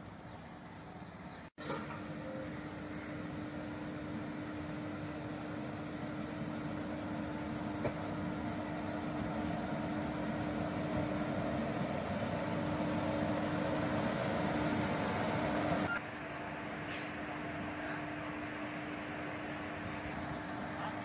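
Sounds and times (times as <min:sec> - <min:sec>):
electric locomotive humming and rumbling: 0:00.0 - 0:21.0.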